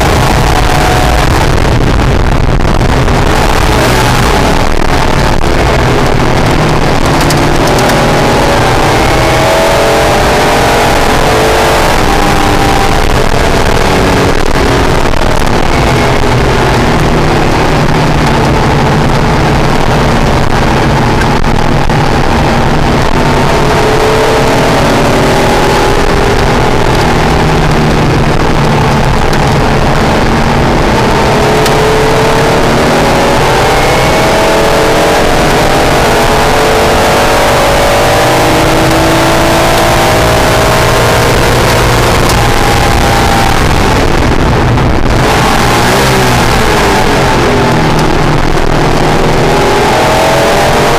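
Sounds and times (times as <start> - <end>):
car engine accelerating: 0.0 - 50.9
road and wind noise: 0.0 - 50.9.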